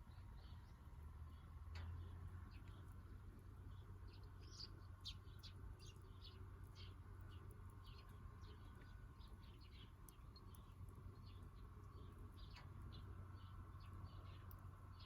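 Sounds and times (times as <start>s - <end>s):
low steady hum: 0.0s - 15.0s
small birds chirping: 0.0s - 15.0s.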